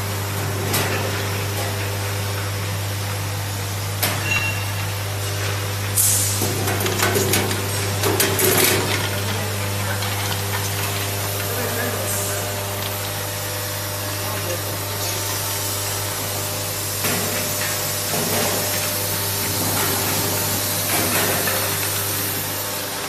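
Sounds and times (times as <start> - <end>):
bowl feeder humming: 0.0 - 23.0.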